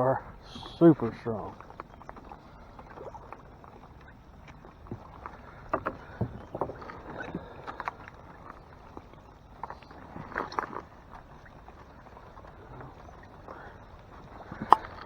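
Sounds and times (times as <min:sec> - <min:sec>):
water splashing against boat: 0:00.0 - 0:15.0
wind and rain hiss: 0:00.0 - 0:15.0.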